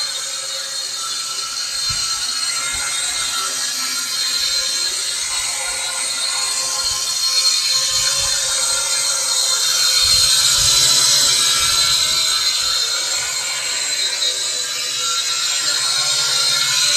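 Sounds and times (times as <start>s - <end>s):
toy quadcopter whirring: 0.0s - 16.9s.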